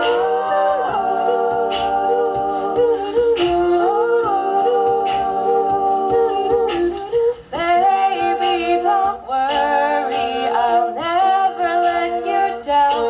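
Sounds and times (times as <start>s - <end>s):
women humming in harmony: 0.0s - 13.0s.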